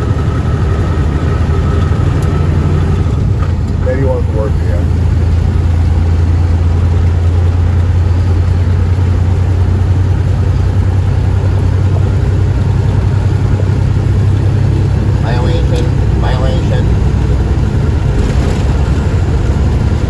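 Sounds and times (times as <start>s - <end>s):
road noise: 0.0s - 20.0s
truck engine drone: 0.0s - 20.0s.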